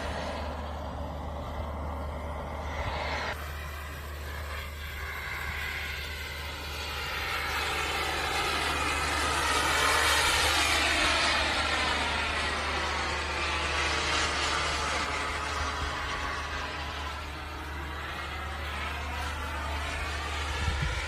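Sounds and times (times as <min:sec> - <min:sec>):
model jet turbine rush and whine: 0:00.0 - 0:21.0.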